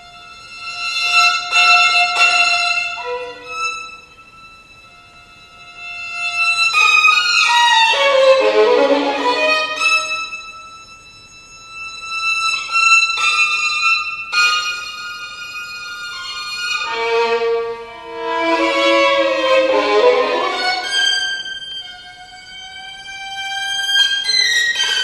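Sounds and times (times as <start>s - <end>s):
solo violin playing: 0.0s - 25.0s.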